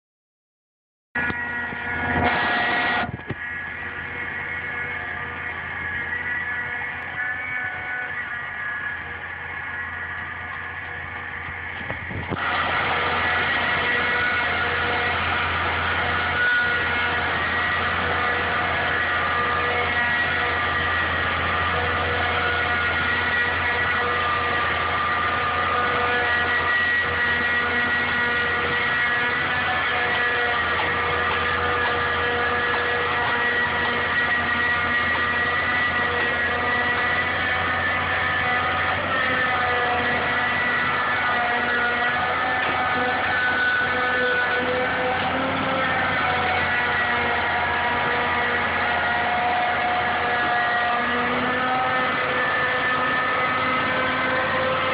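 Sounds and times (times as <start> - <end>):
excavator diesel engine running: 1.2 - 54.9
high whine: 1.2 - 54.9.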